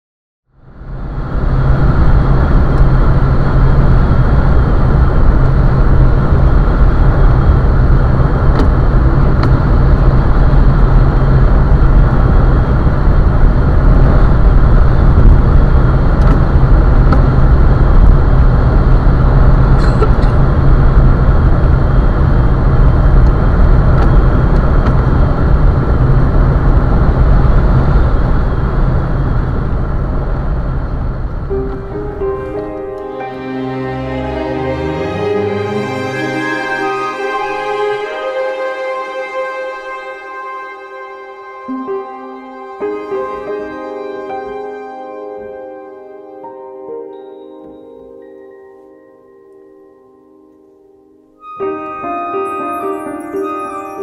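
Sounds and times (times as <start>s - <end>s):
engine and drivetrain drone: 0.5s - 44.8s.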